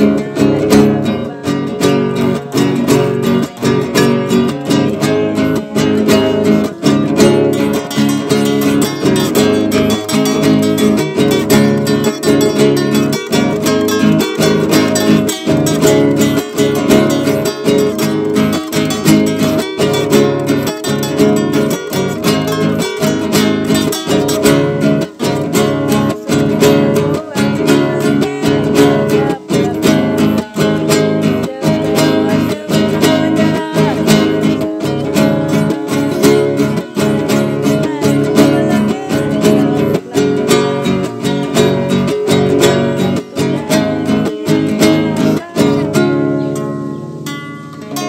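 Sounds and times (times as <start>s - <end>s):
acoustic guitars playing: 0.0s - 48.0s.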